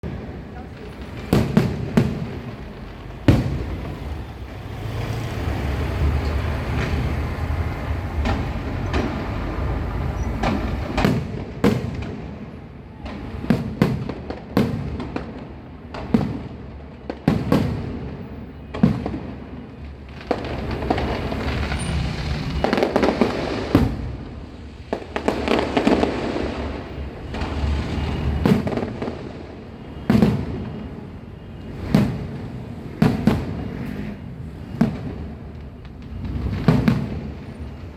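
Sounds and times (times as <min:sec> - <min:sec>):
continuous rumble: 0:00.0 - 0:37.9
fireworks bursting with bangs: 0:00.0 - 0:37.9
fireworks crackle: 0:00.0 - 0:37.9.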